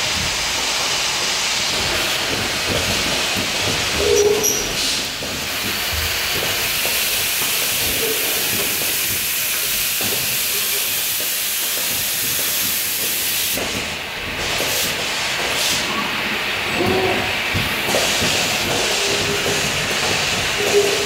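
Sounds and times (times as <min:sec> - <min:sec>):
compressed air hissing: 0:00.0 - 0:21.0.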